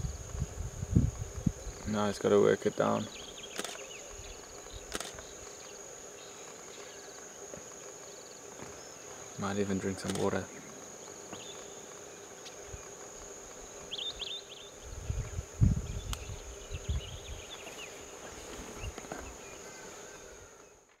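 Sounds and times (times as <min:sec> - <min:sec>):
high insect trill: 0:00.0 - 0:21.0
small birds chirping: 0:01.4 - 0:20.9.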